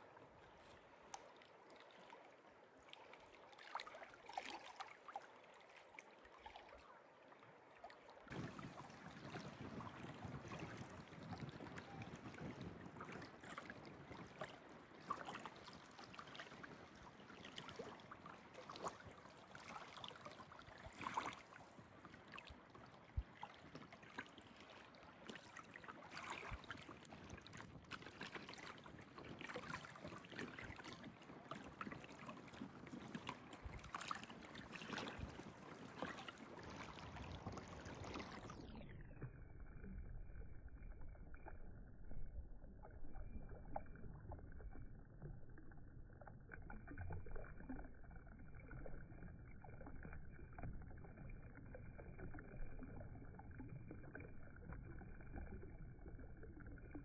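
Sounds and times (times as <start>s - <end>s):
lake water lapping: 0.0s - 57.0s.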